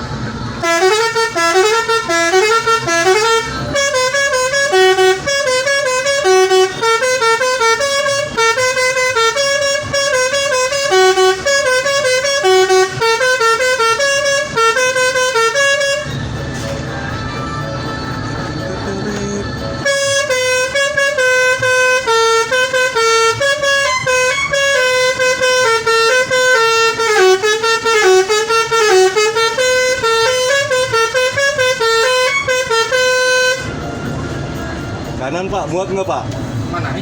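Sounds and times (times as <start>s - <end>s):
multi-tone bus horn melody: 0.0s - 37.0s.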